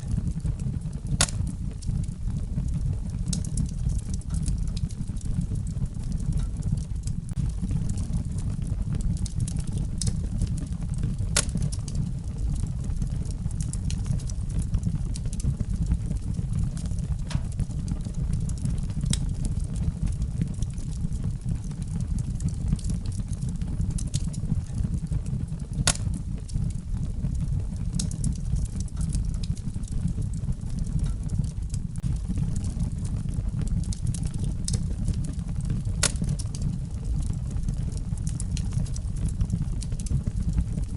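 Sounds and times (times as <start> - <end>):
low rumble of fire flames: 0.0 - 40.9
wood fire crackles and pops: 0.0 - 40.9.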